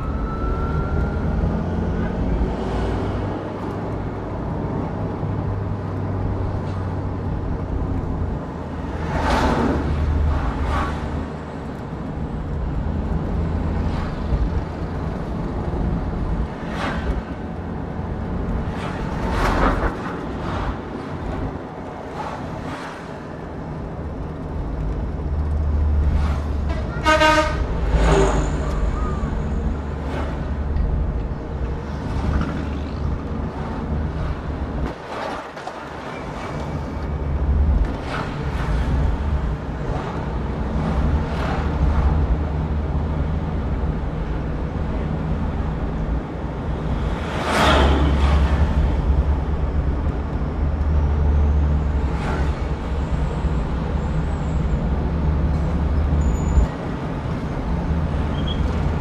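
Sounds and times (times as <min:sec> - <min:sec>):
road and engine rumble: 0:00.0 - 0:59.0
vehicles rushing past: 0:00.0 - 0:59.0.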